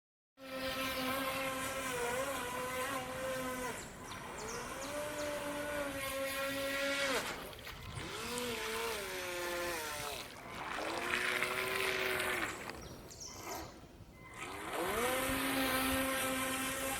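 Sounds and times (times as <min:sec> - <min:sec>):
small electric motor whining: 0:00.4 - 0:16.9.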